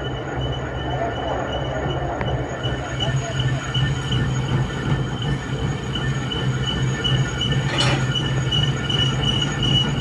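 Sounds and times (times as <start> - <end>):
machine whine and hum: 0.0 - 10.0.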